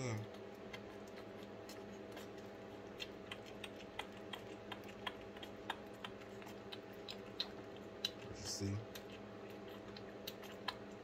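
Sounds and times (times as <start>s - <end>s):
faint steady hum: 0.0s - 11.0s
puppy sucking clicks: 0.1s - 11.0s.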